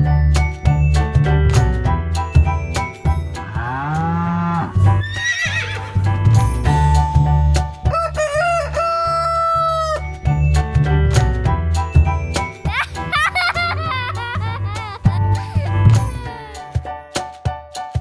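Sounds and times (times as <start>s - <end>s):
upbeat children's music: 0.0s - 18.0s.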